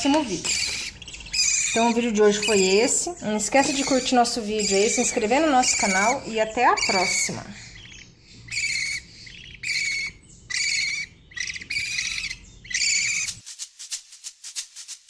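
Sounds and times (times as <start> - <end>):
bird chicks calling: 0.0 - 13.4.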